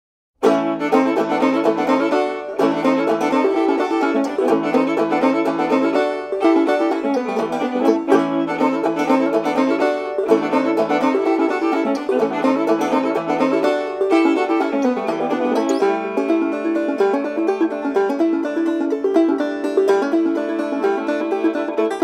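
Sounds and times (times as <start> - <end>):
banjo playing old-time tune: 0.4 - 22.0.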